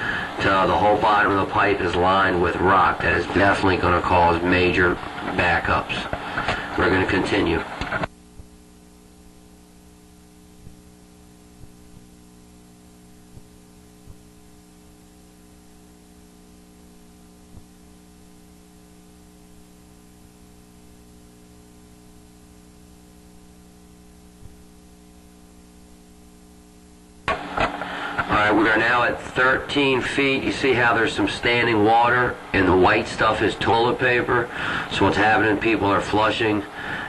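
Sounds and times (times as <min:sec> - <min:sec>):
electrical mains hum: 0:00.0 - 0:37.0.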